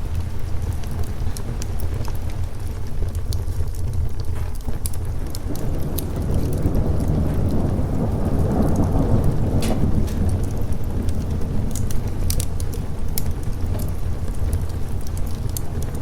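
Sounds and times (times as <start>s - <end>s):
log fire crackling and popping: 0.0s - 16.0s
steady rain: 0.0s - 16.0s
thunder rolling: 0.0s - 16.0s.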